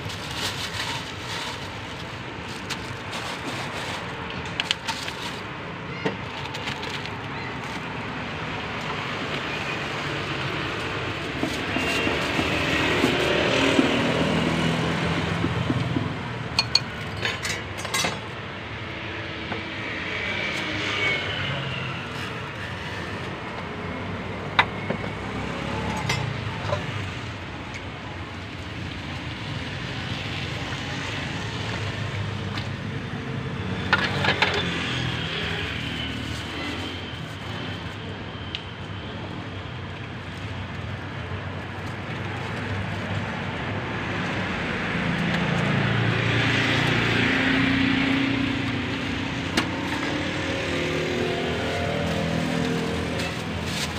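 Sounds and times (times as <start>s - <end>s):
street traffic: 0.0s - 53.9s.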